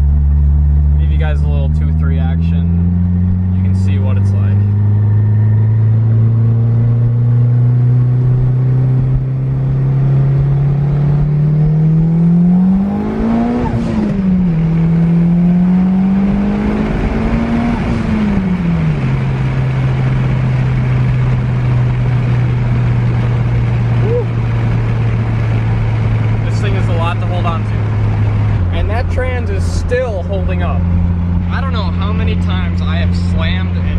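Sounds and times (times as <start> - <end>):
turbocharged car engine accelerating: 0.0 - 33.9.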